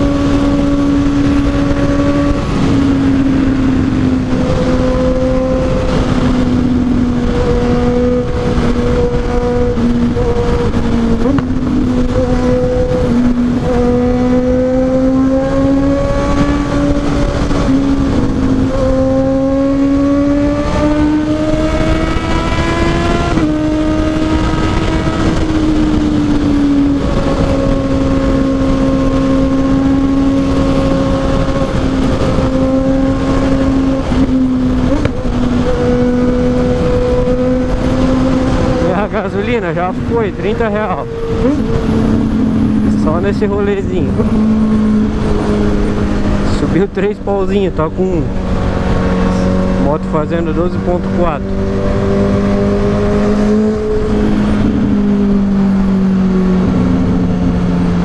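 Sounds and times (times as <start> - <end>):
motorcycle engine accelerating: 0.0 - 58.0
wind rush on microphone: 0.0 - 58.0.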